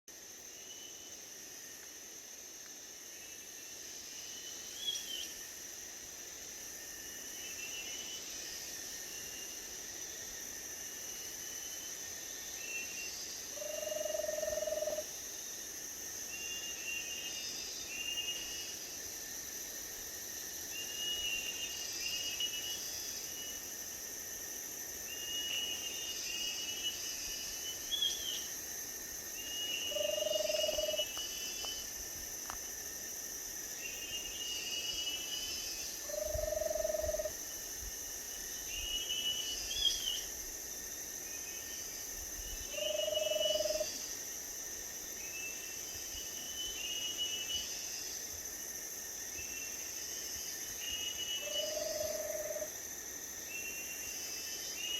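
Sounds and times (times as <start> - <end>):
high insect drone: 0.1 - 54.9.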